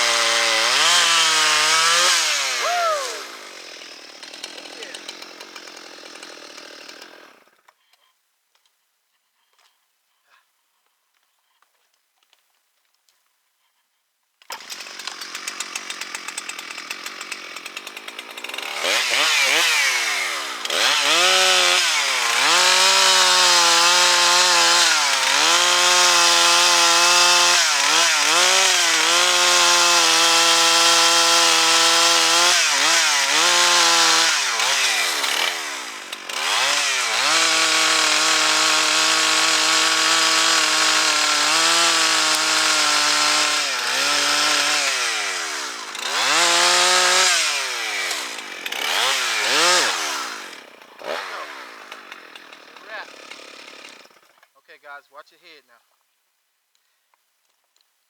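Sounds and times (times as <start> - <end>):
chainsaw revving and cutting wood: 0.0 - 7.7, 14.4 - 54.6.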